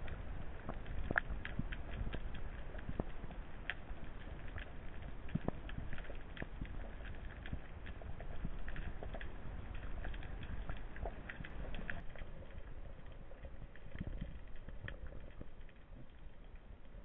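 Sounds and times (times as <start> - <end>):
crackling clicks: 0.0 - 17.0
low underwater rumble: 0.0 - 17.0.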